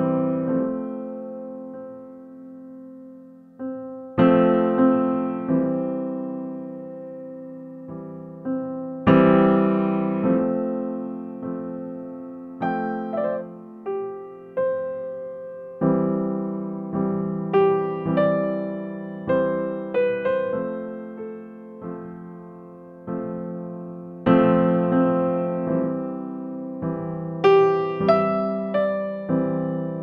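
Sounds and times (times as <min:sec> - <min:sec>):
slow piano chords: 0:00.0 - 0:30.0.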